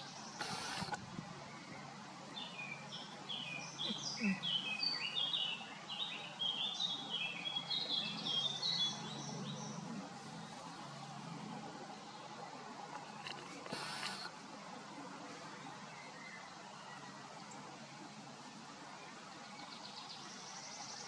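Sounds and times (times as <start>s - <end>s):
outdoor background noise: 0.0s - 21.0s
songbird chirping: 0.0s - 21.0s.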